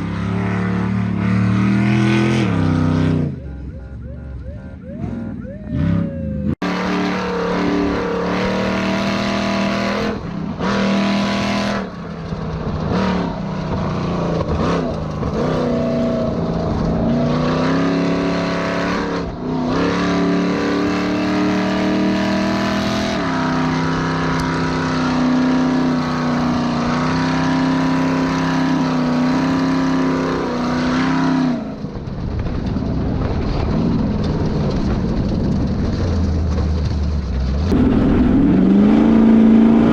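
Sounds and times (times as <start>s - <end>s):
race car engine revving: 0.0s - 32.0s, 33.7s - 39.9s.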